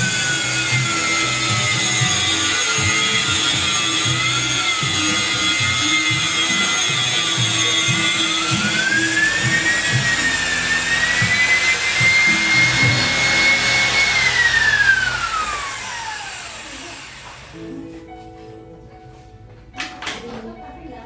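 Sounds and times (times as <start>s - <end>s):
power tool motor whining: 0.0s - 17.7s
music: 0.0s - 21.0s.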